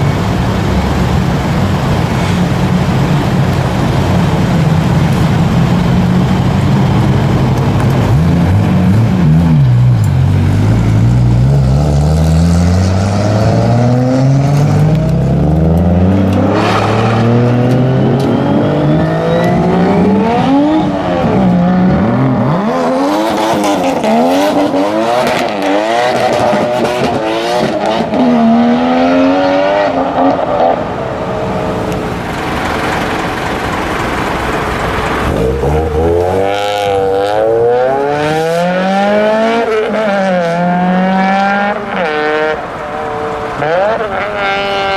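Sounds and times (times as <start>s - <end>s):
car engines accelerating hard: 0.0s - 44.9s.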